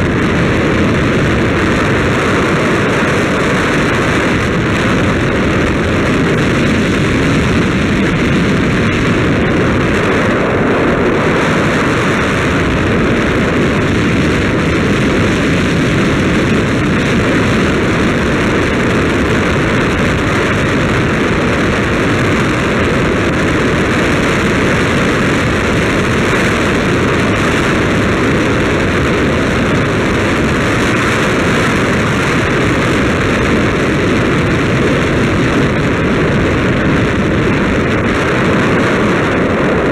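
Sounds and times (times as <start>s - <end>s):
wind roaring over microphone: 0.0s - 39.9s.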